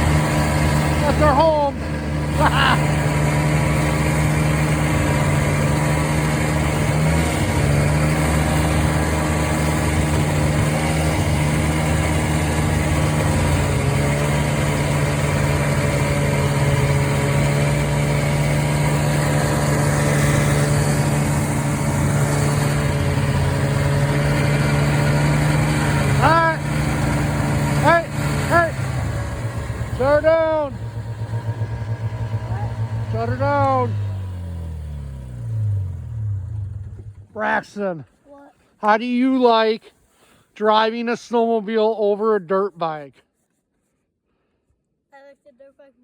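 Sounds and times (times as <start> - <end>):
snowmobile two-stroke engine running: 0.0 - 39.5.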